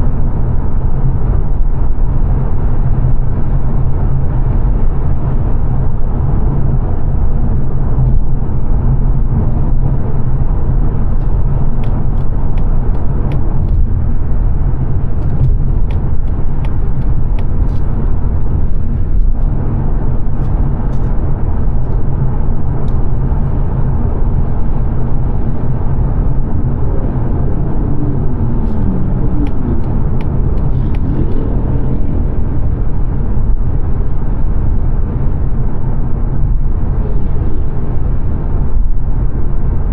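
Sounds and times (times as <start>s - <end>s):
engine drone: 0.0s - 39.9s.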